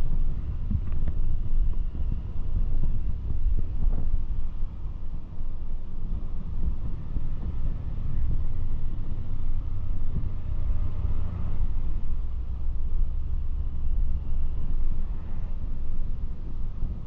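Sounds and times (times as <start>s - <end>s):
road and wind noise: 0.0s - 17.0s
vehicle driving rumble: 0.0s - 17.0s.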